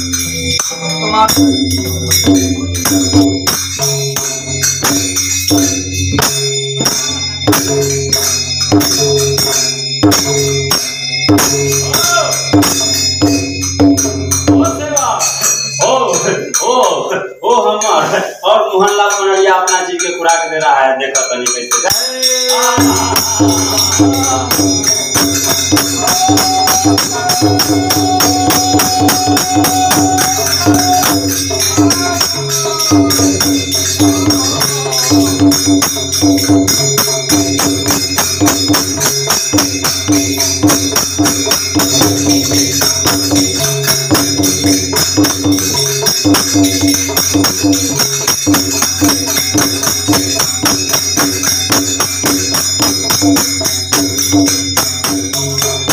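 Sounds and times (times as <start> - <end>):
drum: 0.0 - 15.8, 21.8 - 55.9
hand cymbals clashing: 0.0 - 55.9.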